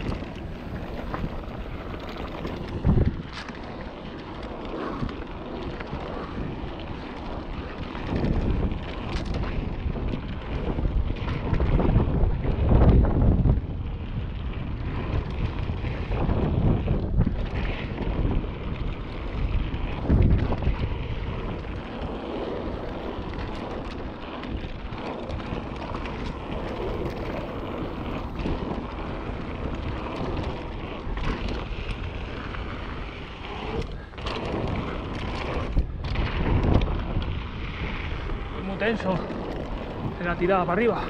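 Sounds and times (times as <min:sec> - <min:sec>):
bike rattling and knocking: 0:00.0 - 0:41.0
bike tyres rolling on gravel: 0:00.0 - 0:41.0
wind buffeting microphone: 0:00.0 - 0:41.0.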